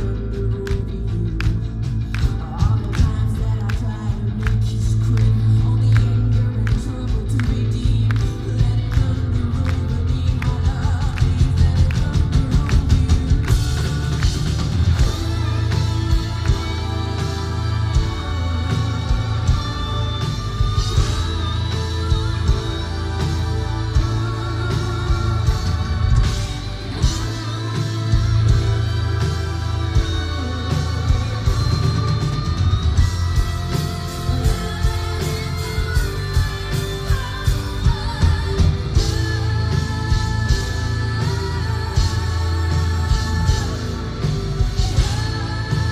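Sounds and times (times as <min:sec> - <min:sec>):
guitars: 0:00.0 - 0:45.9
heavy bass line: 0:00.0 - 0:45.9
metal band playing live: 0:00.0 - 0:45.9.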